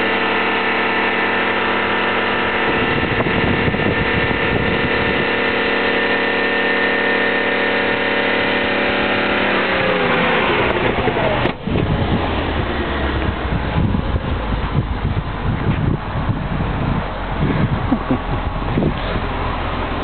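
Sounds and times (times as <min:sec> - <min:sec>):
car engine running: 0:00.0 - 0:20.0
low engine rumble: 0:00.0 - 0:20.0.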